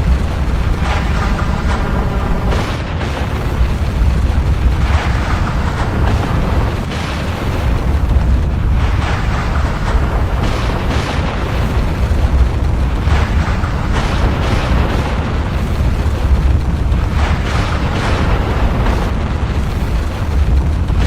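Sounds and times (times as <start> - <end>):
deep volcanic rumble: 0.0 - 21.0
hissing surges: 0.0 - 21.0.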